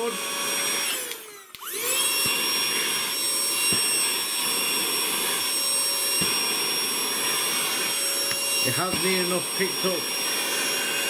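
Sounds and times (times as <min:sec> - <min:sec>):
handheld vacuum motor whining: 0:00.0 - 0:11.0.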